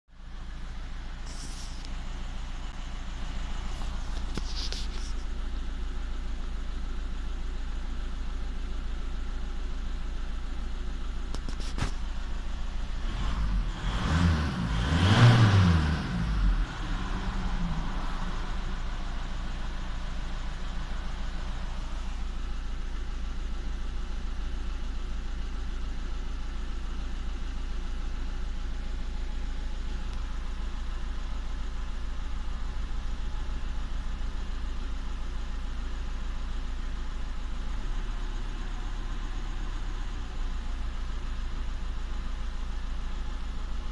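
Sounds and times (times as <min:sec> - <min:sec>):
diesel engine idling with misfire: 0:00.1 - 0:43.9.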